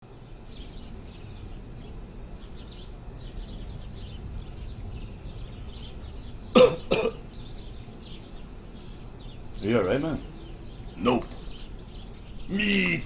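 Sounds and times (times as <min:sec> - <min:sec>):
birds chirping: 0:00.0 - 0:13.0
low background rumble: 0:00.0 - 0:13.0.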